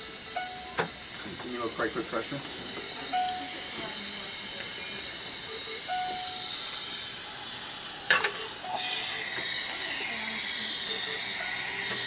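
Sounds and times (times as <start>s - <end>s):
oxygen hissing: 0.0s - 12.0s.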